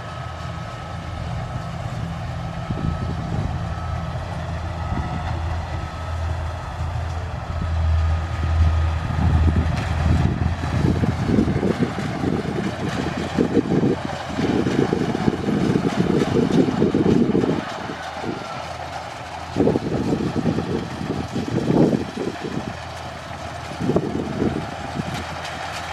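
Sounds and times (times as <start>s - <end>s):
diesel engine running: 0.0s - 25.9s
heavy rumbling: 0.0s - 25.9s.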